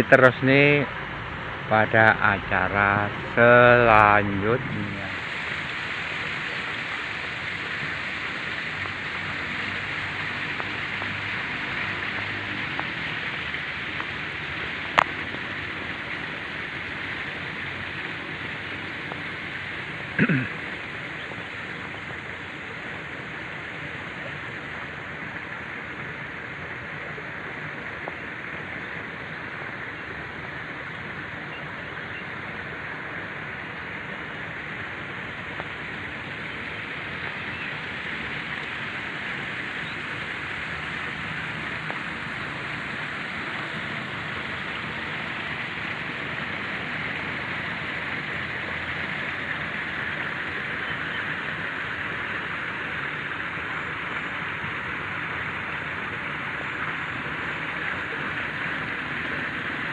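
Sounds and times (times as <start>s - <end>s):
steady rushing outdoor noise: 0.0s - 59.9s.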